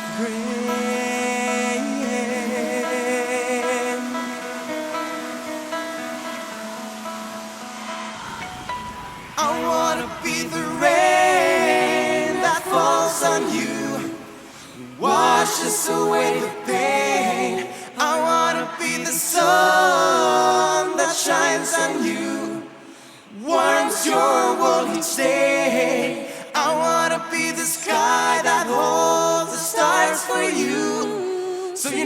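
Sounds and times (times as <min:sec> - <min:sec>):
voices singing in harmony: 0:00.0 - 0:32.0.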